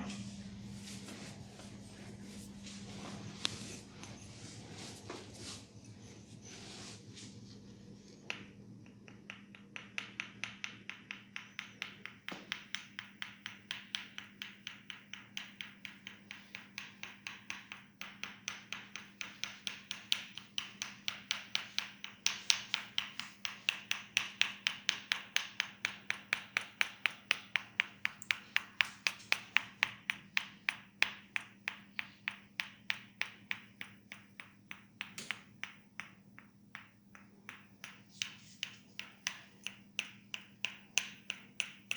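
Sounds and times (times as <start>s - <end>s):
hands tapping on head: 8.3s - 41.9s.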